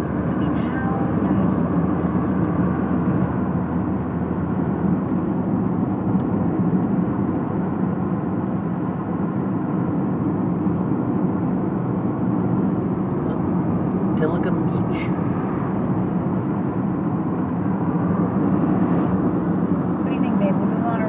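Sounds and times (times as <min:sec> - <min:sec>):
car driving heard from inside: 0:00.0 - 0:21.0.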